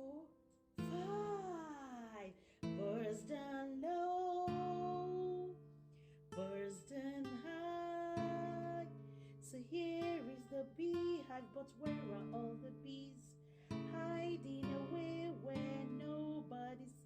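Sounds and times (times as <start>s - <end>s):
woman singing: 0.0s - 5.6s, 6.3s - 17.0s.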